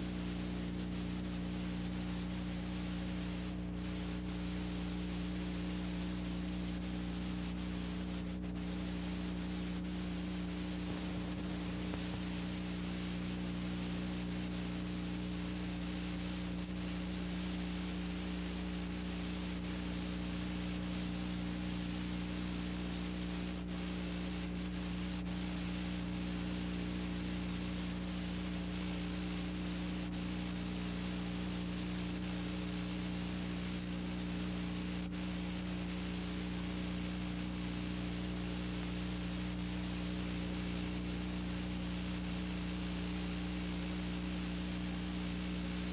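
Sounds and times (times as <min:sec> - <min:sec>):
electrical hum: 0:00.0 - 0:45.9.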